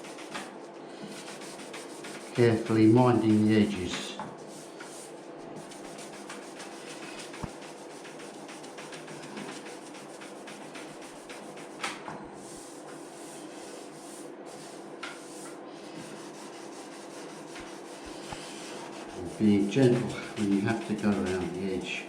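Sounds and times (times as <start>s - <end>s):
sandpaper rubbing on paint: 0.0s - 21.9s
faint steady hum: 0.0s - 22.0s.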